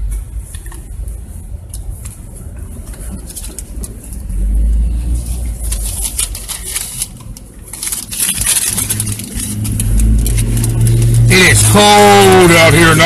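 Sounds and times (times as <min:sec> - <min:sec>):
car engine: 0:00.0 - 0:13.0
road rumble: 0:00.0 - 0:13.0.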